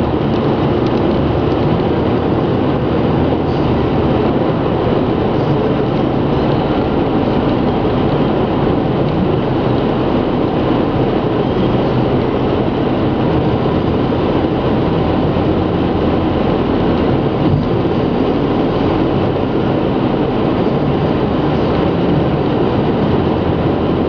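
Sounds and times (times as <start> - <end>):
car road noise inside cabin: 0.0 - 24.0.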